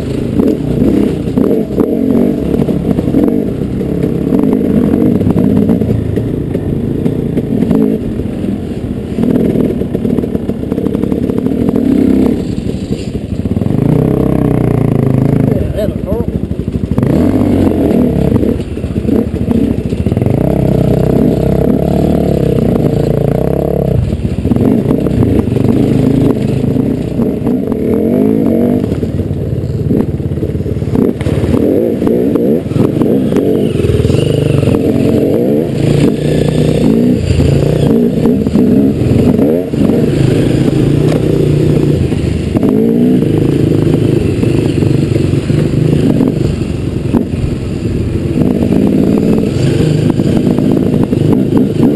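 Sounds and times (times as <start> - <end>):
dirt bike engine revving: 0.0 - 8.4, 9.1 - 51.9
clatter: 0.0 - 51.9.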